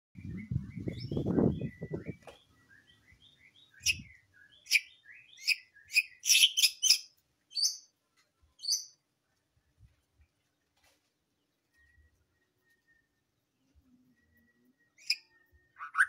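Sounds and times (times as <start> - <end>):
songbird singing: 0.2 - 16.0.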